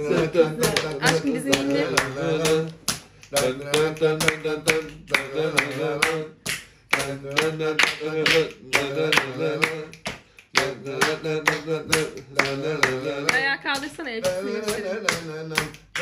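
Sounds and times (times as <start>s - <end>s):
hand claps: 0.0s - 16.0s.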